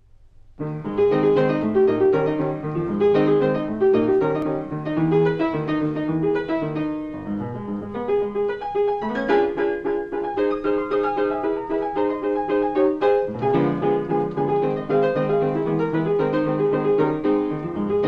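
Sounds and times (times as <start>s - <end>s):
lively piano melody: 0.5s - 18.0s.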